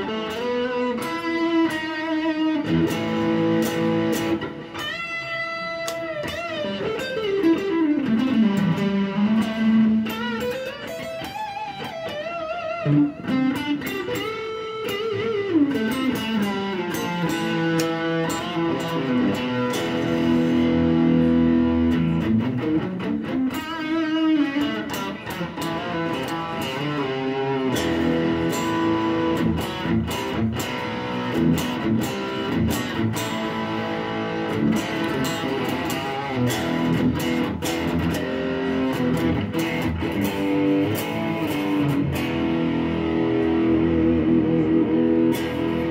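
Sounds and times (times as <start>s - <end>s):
electric guitar lead lines: 0.0s - 45.9s.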